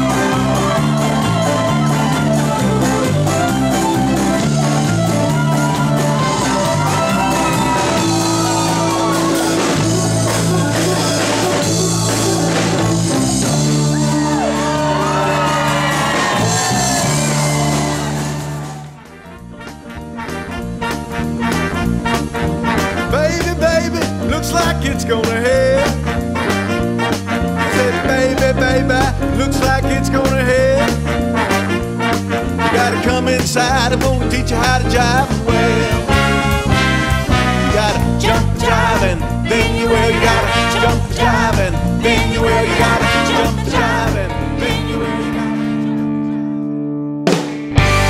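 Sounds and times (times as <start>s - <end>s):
drums: 0.0s - 45.5s, 47.3s - 48.0s
electric bass: 0.0s - 48.0s.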